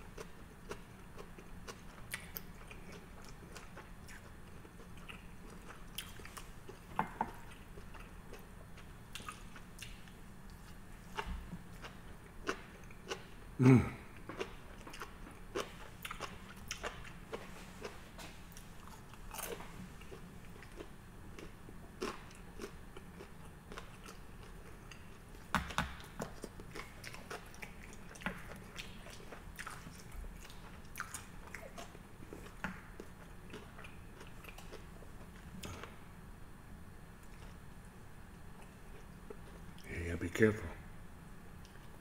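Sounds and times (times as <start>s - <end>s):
man chewing with mouth clicks: 0.0s - 36.1s, 37.1s - 39.9s.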